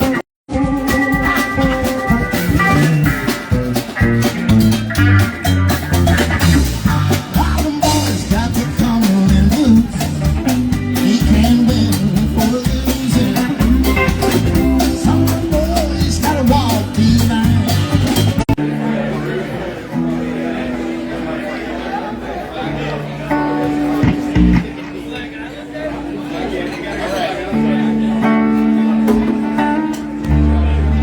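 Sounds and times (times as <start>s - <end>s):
live rock band playing: 0.0s - 21.5s, 23.0s - 25.4s, 27.5s - 31.0s.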